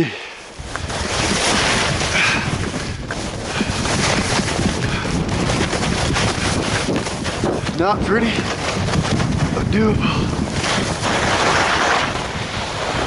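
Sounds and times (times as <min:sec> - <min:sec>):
wind buffeting microphone: 0:00.5 - 0:13.0
skis scraping over snow: 0:00.6 - 0:13.0.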